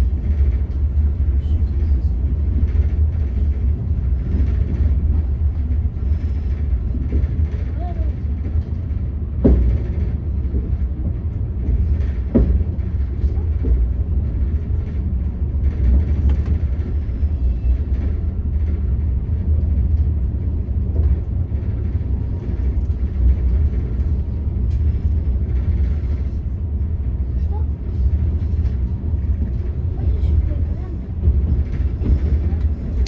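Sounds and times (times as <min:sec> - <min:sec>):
train coach rumbling on rails: 0:00.0 - 0:33.0.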